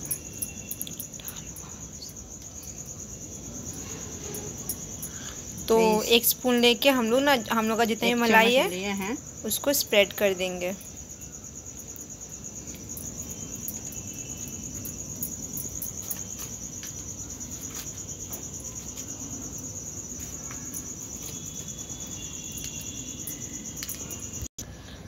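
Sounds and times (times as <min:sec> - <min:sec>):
cricket trilling: 0:00.0 - 0:24.7.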